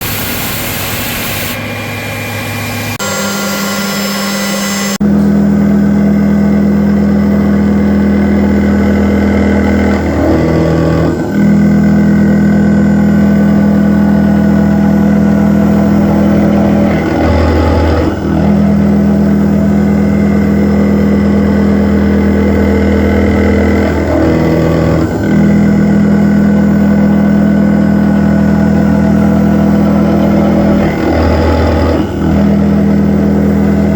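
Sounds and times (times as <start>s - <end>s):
milling machine hum: 0.0s - 33.9s.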